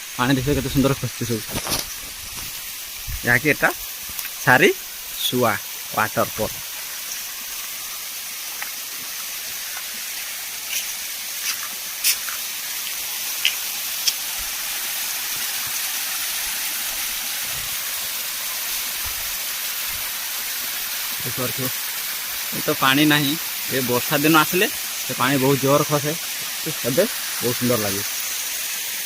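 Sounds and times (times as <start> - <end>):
waterfall hissing: 0.0 - 29.0.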